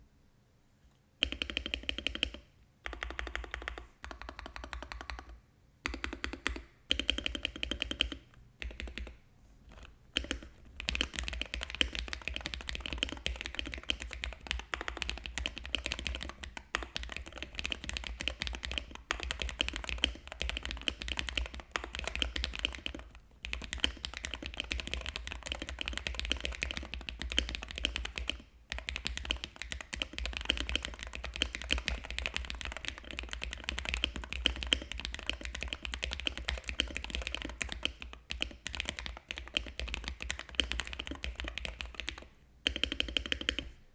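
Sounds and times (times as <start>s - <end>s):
typing on keyboard: 1.2s - 43.8s.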